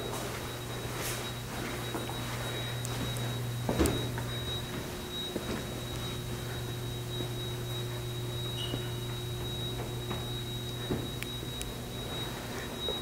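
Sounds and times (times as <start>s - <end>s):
electrical mains hum: 0.0s - 13.0s
high-pitched whine: 0.0s - 13.0s.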